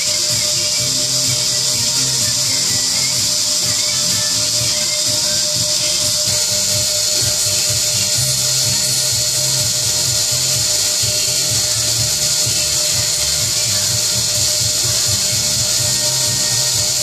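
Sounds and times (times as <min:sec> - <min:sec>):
machine spindle cutting metal: 0:00.0 - 0:17.0
music: 0:00.0 - 0:17.0.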